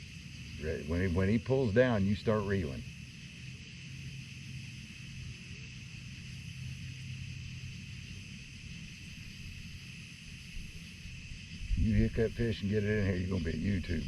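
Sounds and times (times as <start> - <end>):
low steady hum: 0.0 - 14.0
night insects chirring: 0.0 - 14.0.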